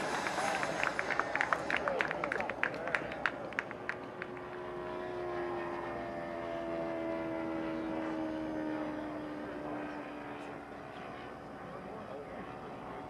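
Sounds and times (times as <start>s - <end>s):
model jet turbine flying past: 0.0s - 13.0s.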